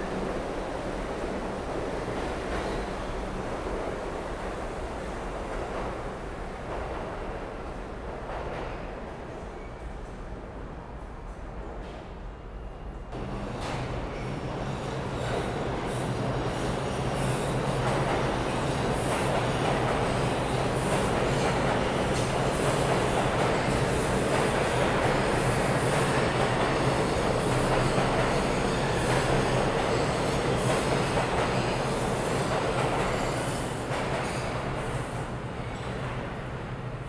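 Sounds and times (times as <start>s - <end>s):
subway train wheels rumbling: 0.0s - 37.0s.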